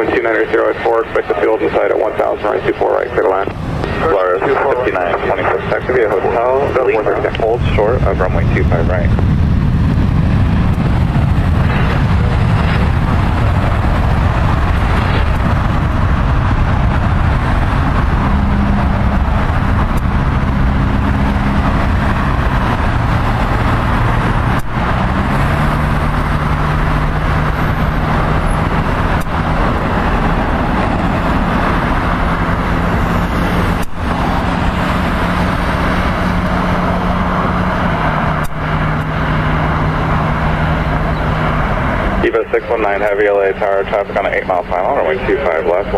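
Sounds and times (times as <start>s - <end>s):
motor vehicle engine drone: 0.0s - 45.9s.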